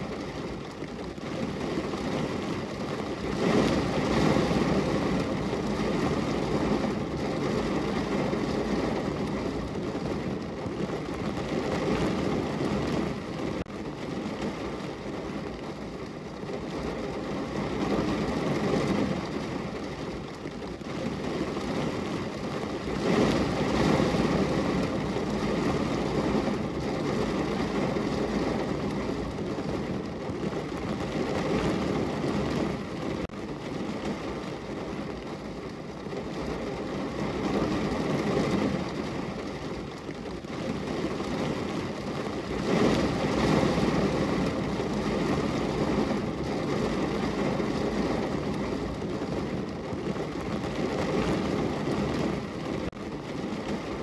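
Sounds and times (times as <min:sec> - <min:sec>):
rain falling on a window: 0:00.0 - 0:54.0.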